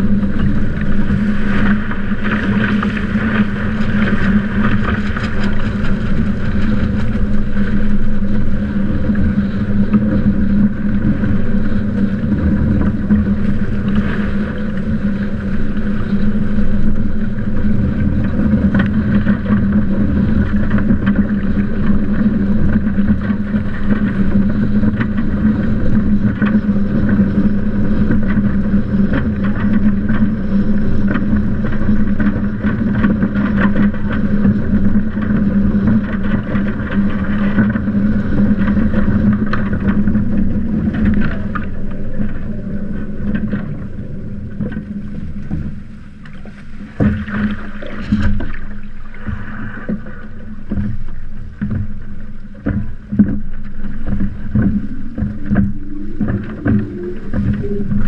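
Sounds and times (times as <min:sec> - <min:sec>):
steady hum: 0:00.0 - 0:58.0
water splashing along boat hull: 0:00.0 - 0:58.0
wind buffeting camera: 0:00.0 - 0:58.0.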